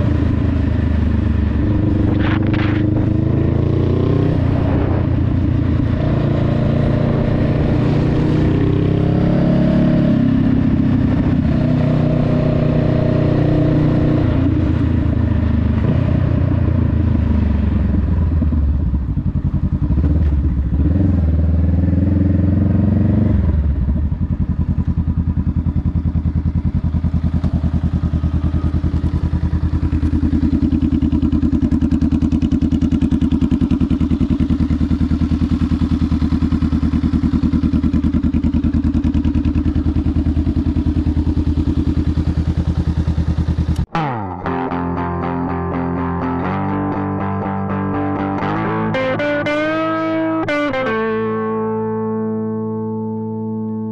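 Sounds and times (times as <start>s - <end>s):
motorcycle engine revving and idling: 0.0s - 53.9s.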